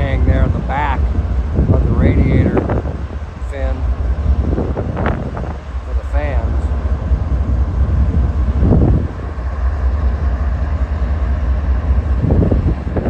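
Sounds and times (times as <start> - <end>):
diesel locomotives idling: 0.0 - 13.0.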